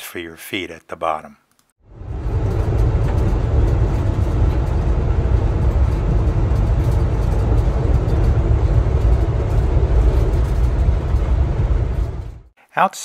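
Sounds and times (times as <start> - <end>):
rushing noise: 1.8 - 12.5
train coach rumble: 1.9 - 12.5.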